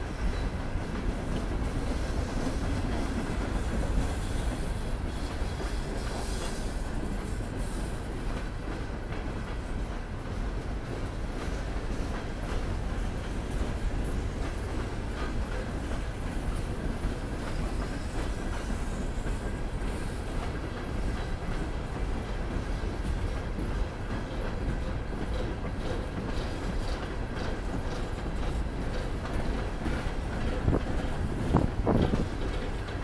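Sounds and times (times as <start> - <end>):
freight train cars rolling: 0.0 - 33.0.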